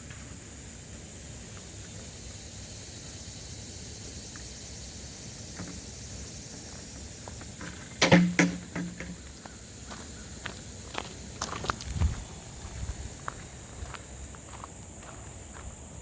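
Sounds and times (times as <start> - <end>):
high outdoor hiss: 0.0 - 16.0.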